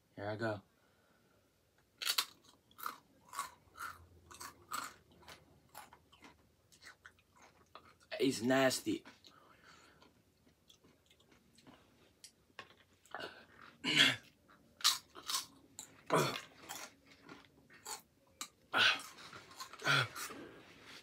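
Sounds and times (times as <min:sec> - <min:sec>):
person chewing crunchy chip: 0:02.0 - 0:08.1, 0:09.1 - 0:21.0.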